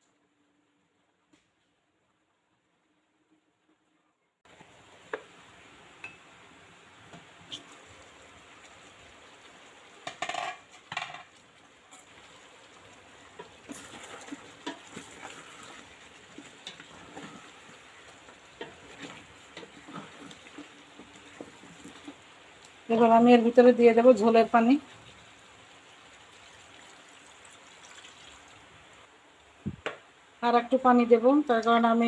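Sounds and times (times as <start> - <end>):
faint sizzle: 0.0 - 32.0.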